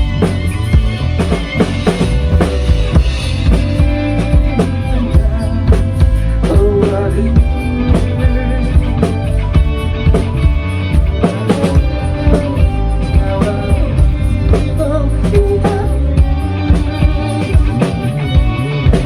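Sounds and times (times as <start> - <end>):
bass guitar: 0.0 - 19.0
drum kit beat: 0.0 - 19.0
sustained guitar notes: 0.0 - 19.0.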